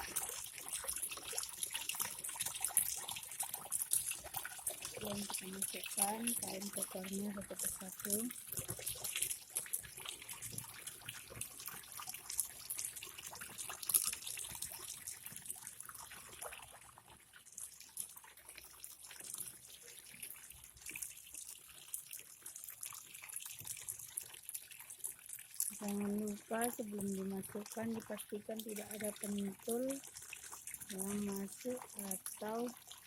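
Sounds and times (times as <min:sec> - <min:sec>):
tap water running into tub: 0:00.0 - 0:33.0
water splashing and trickling: 0:00.0 - 0:33.0.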